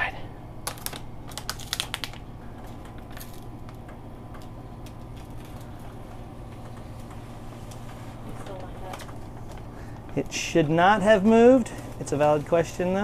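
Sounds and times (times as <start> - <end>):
steady low hum: 0.0 - 13.0
backing paper crackling: 0.6 - 13.0.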